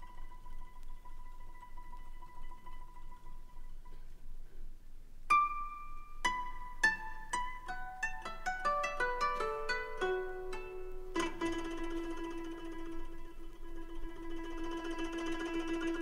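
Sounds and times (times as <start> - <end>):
plucked string instrument: 0.0 - 4.7, 5.3 - 16.0.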